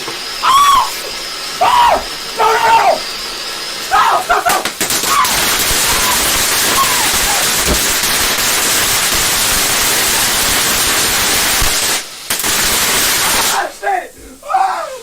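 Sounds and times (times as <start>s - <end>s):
firework spraying with loud hiss: 0.0s - 15.0s.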